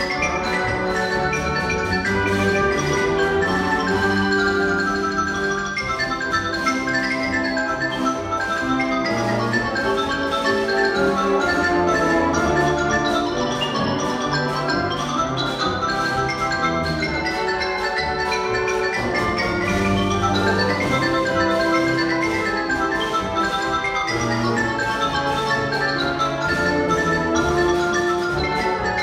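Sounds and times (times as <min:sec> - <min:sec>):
concert band holding notes: 0:00.0 - 0:29.0
xylophone playing fast solo: 0:00.0 - 0:29.0.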